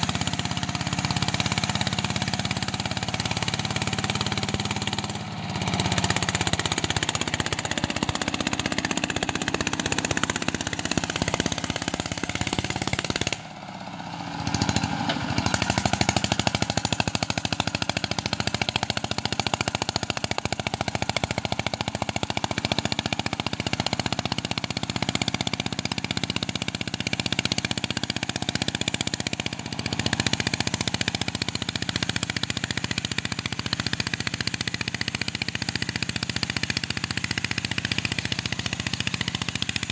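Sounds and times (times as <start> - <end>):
diesel engine chattering exhaust: 0.0 - 39.9.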